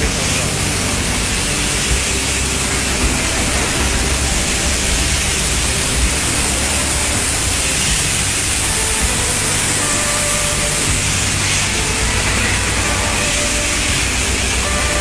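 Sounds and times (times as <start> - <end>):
concrete spraying machine hissing: 0.0 - 15.0
low rumble: 0.0 - 15.0.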